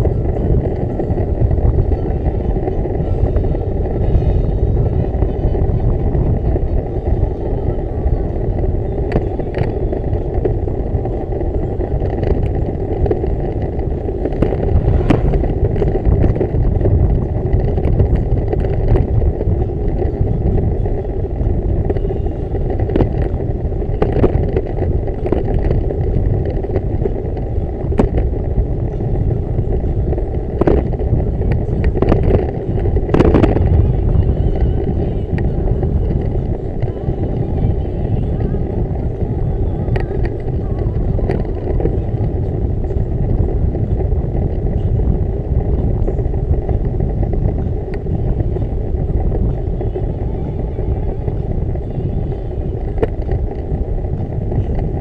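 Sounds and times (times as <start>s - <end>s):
bicycle clicks and rattles: 0.0s - 55.0s
wind and road noise: 0.0s - 55.0s.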